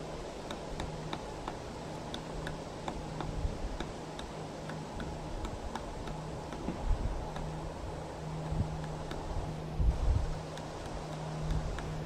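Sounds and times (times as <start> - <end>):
woodpecker tapping on wood: 0.4 - 7.7, 8.3 - 9.4, 10.4 - 12.0.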